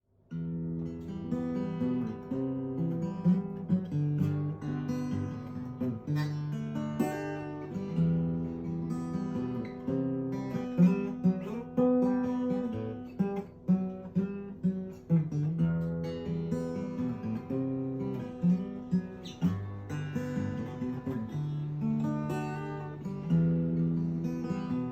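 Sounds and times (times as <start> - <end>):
acoustic guitar picking chords: 0.2 - 24.9.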